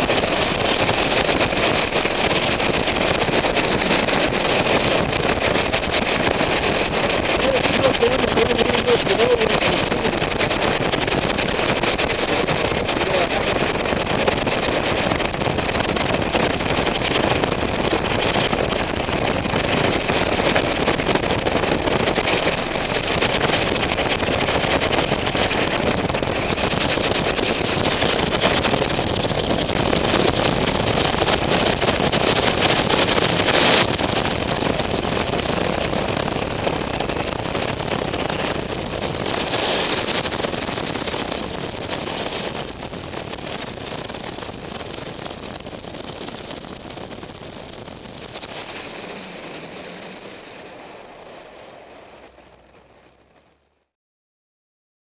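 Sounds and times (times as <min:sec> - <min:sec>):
strong wind buffeting microphone: 0:00.0 - 0:53.4.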